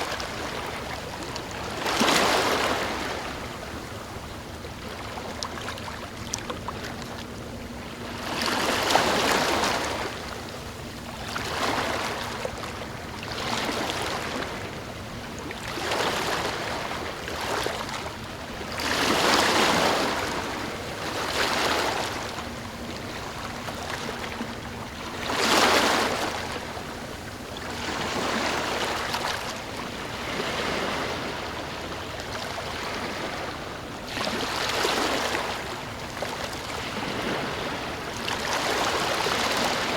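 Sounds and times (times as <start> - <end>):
small ocean waves washing in: 0.0 - 39.9.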